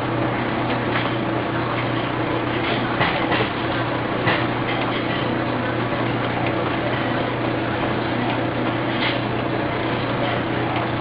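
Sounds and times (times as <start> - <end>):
printer running: 0.0 - 11.0.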